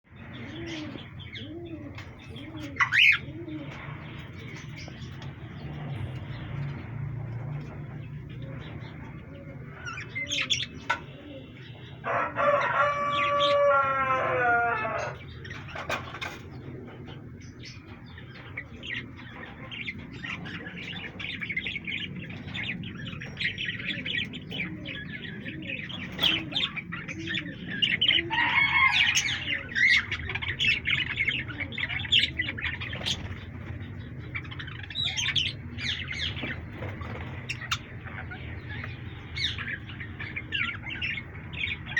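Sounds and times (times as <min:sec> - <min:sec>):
pet birds chirping: 0:00.1 - 0:41.9.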